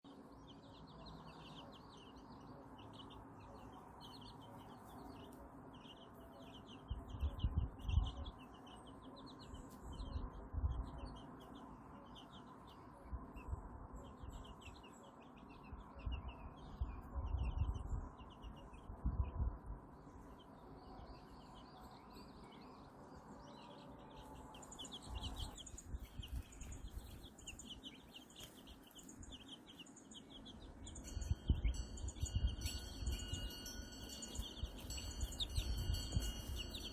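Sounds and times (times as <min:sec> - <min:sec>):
chicks peeping: 0:00.2 - 0:19.5, 0:20.2 - 0:36.9.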